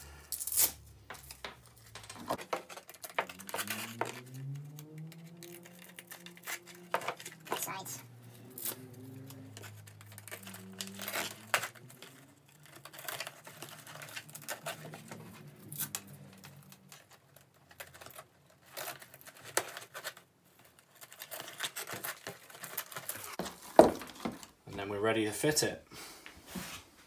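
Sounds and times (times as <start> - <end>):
straps rustling and crinkling: 0.0 - 24.6.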